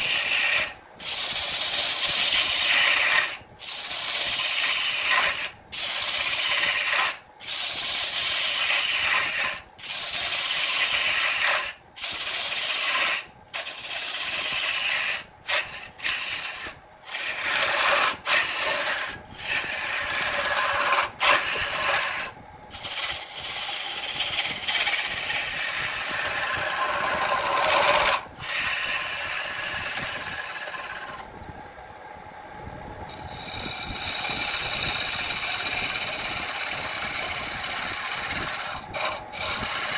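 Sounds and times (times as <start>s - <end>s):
lathe tool shaving wood: 0.0s - 31.3s, 33.1s - 39.9s
lathe motor whine: 0.0s - 39.9s.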